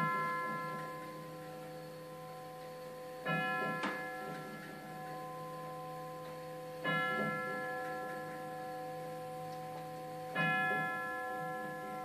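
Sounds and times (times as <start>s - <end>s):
hum of chime tubes: 0.0s - 12.0s
tubular chime clock striking: 0.0s - 12.0s.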